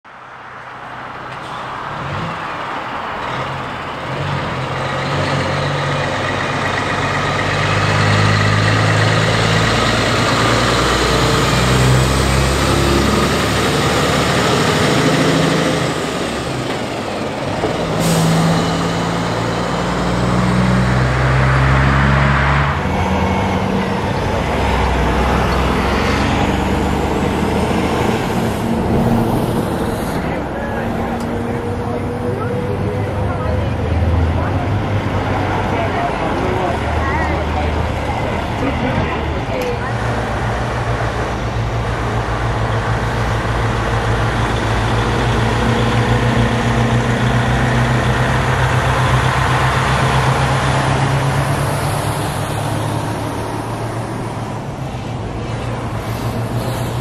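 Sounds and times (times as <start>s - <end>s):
diesel trucks passing: 0.1s - 57.0s.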